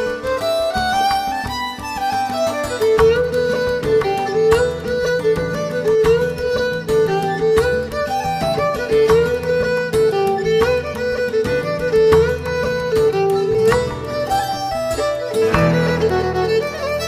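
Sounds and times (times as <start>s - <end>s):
instrumental music with beat: 0.0s - 17.0s.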